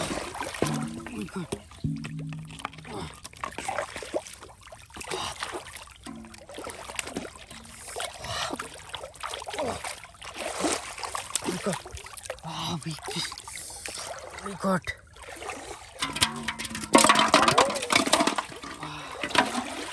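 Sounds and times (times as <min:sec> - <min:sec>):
pond water splashing and sloshing: 0:00.0 - 0:19.9.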